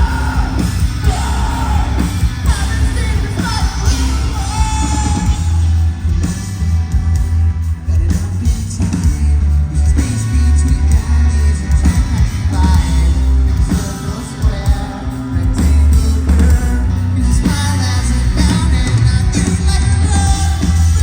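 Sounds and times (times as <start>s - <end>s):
lead singer singing: 0.0s - 21.0s
live rock band: 0.0s - 21.0s.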